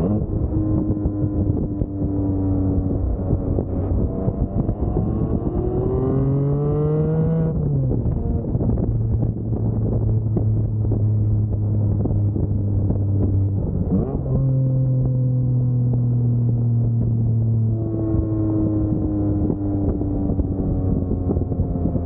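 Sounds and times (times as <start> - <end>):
sports car engine revving: 0.0 - 22.0.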